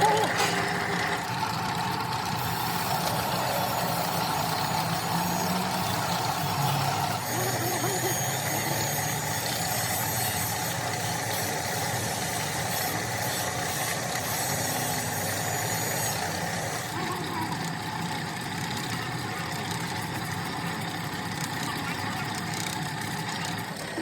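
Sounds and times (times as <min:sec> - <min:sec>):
steady machine noise: 0:00.0 - 0:24.0.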